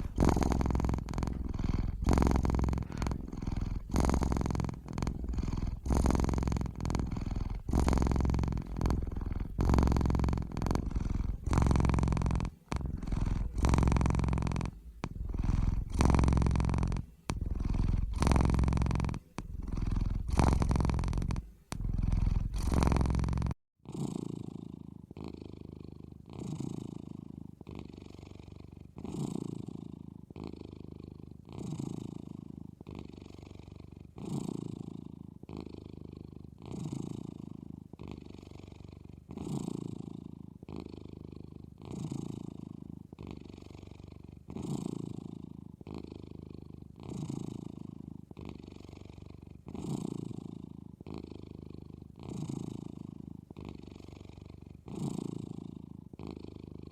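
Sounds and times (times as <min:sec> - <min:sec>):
cat snoring: 0:00.0 - 0:56.9.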